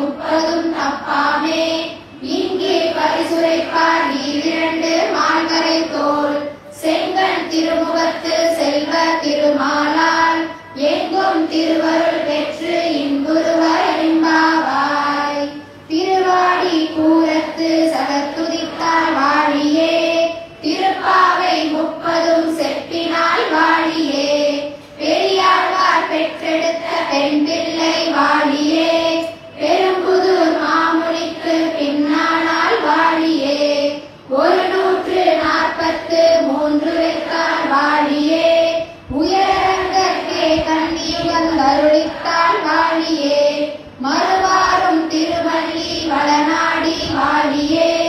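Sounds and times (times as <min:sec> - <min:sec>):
women singing in unison: 0:00.0 - 0:48.0.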